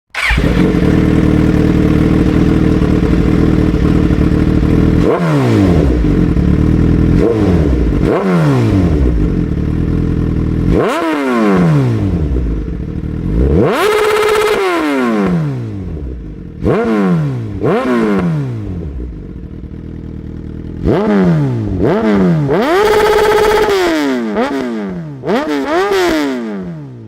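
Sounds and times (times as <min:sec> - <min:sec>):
motorcycle engine idling and revving: 0:00.1 - 0:27.0.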